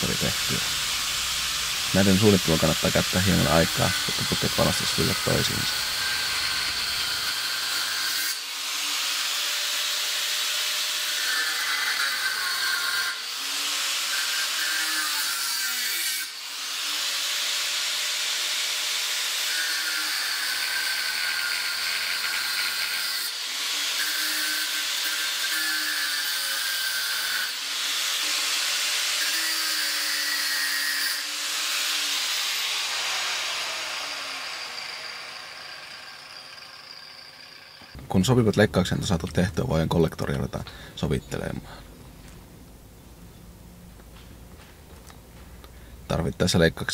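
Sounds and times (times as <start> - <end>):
angle grinder cutting metal pipe: 0.0 - 38.0.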